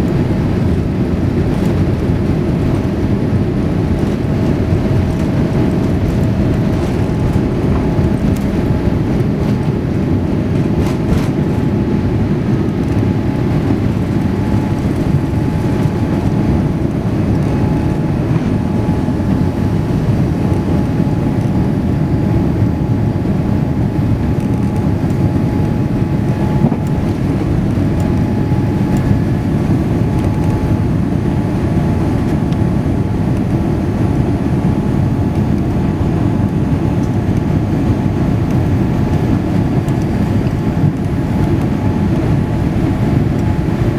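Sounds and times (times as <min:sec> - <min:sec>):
airliner engine rumble in cabin: 0:00.0 - 0:43.9.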